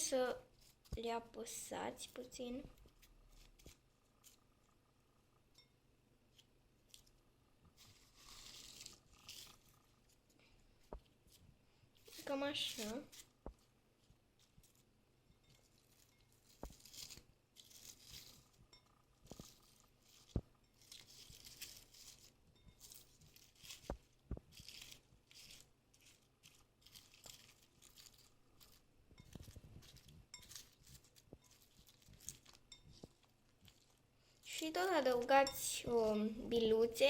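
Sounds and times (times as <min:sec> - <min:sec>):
foam beads crackling in slime: 0:00.0 - 0:04.5, 0:07.8 - 0:10.3, 0:12.0 - 0:13.6, 0:15.7 - 0:37.0.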